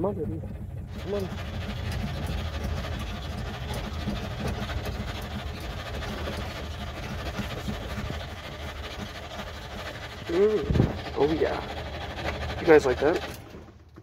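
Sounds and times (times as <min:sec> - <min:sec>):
car engine cranking: 0:00.0 - 0:14.0.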